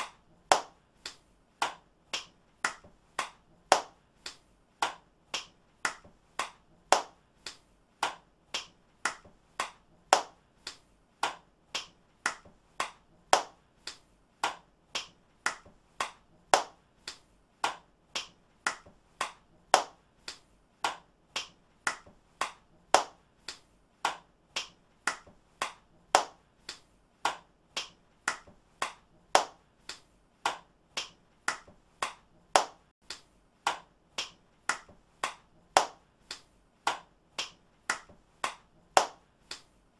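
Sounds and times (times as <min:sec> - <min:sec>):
person clapping hands: 0:00.0 - 0:39.9.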